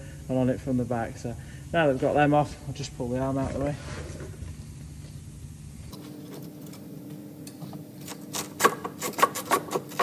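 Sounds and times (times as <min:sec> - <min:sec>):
faint steady hum: 0:00.0 - 0:09.0.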